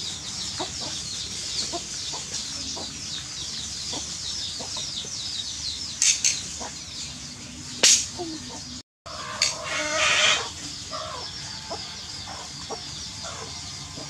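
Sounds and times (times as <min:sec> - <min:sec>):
chickens clucking: 0:00.0 - 0:14.0
small birds chirping: 0:00.0 - 0:14.0.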